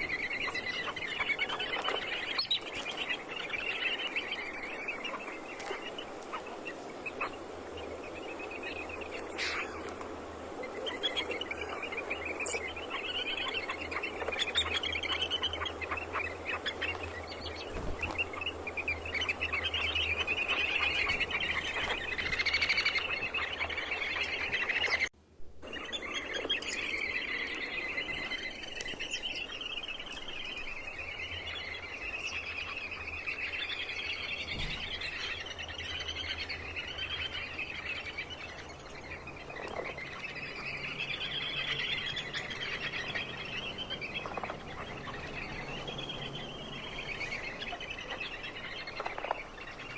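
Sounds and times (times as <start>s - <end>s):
birds chirping and trilling: 0.0s - 49.9s.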